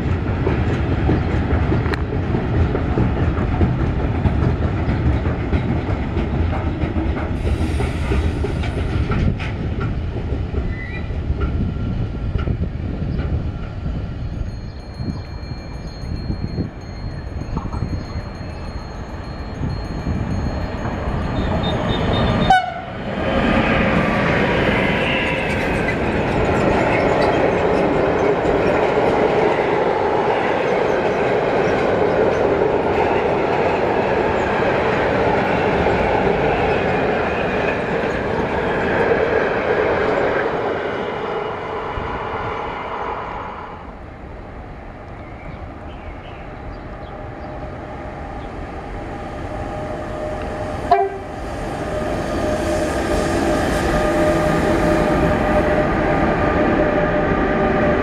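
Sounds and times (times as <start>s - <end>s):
freight train approaching: 0.0s - 58.0s
freight train wheels on rails: 0.0s - 58.0s.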